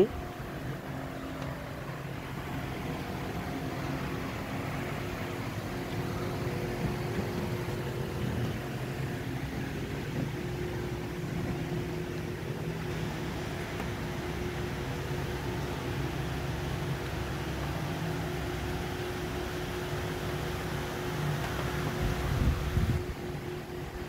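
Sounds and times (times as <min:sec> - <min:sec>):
ventilation hum: 0:00.0 - 0:24.0.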